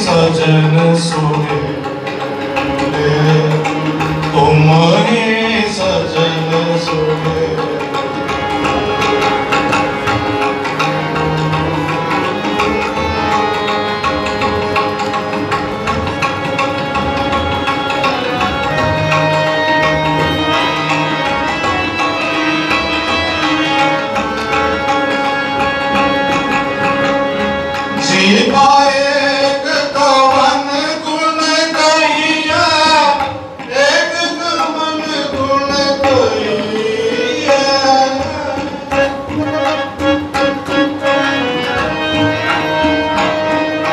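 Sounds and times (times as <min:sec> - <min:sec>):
held instrumental notes: 0:00.0 - 0:43.9
tabla playing: 0:00.0 - 0:43.9.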